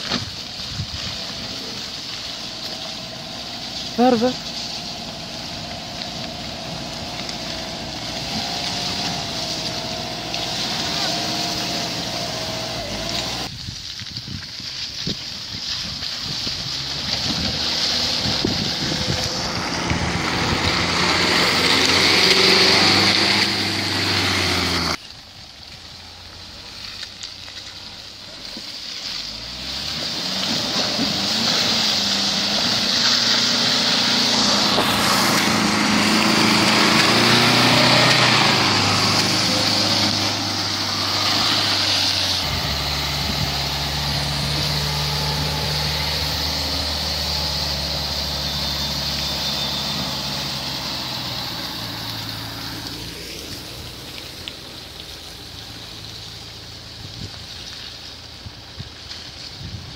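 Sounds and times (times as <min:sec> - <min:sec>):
suv engine working under load: 0:00.0 - 0:13.5, 0:15.9 - 0:59.9.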